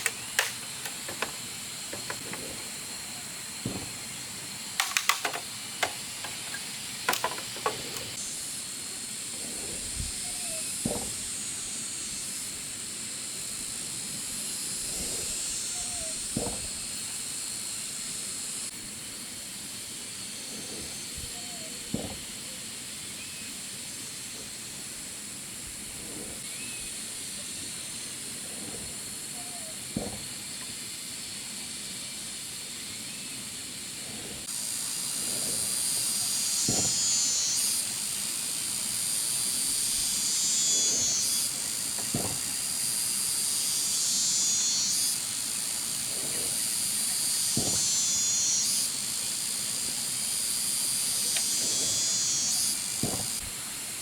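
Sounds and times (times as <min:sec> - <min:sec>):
forest insects buzzing: 0:00.0 - 0:54.0.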